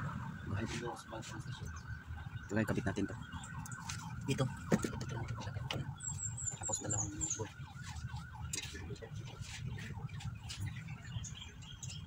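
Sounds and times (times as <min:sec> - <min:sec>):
distant electronic alarm warbling: 0:00.0 - 0:12.0.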